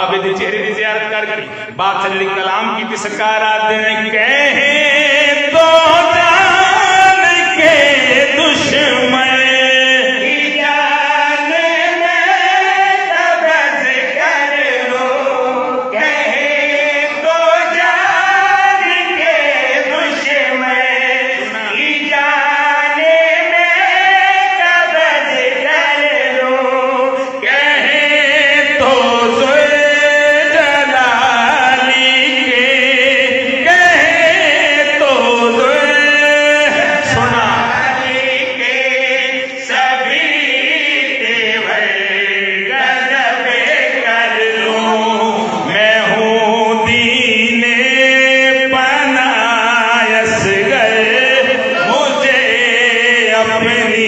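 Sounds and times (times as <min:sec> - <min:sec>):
man chanting over loudspeakers: 0:00.0 - 0:54.0.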